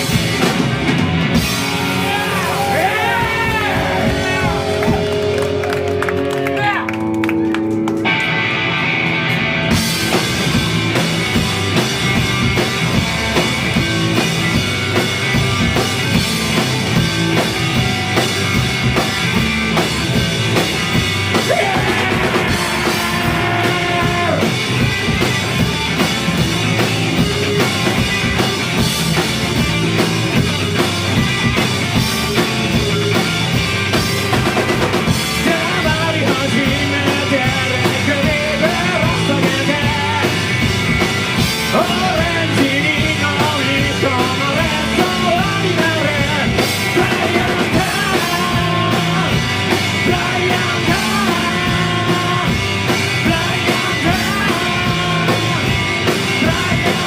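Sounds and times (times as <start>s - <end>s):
drum kit beat: 0.0s - 57.0s
rock band playing live: 0.0s - 57.0s.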